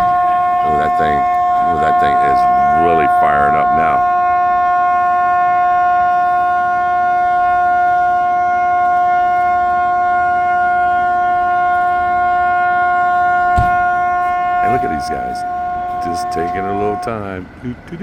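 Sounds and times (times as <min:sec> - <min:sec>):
vehicle horn blaring: 0:00.0 - 0:17.5.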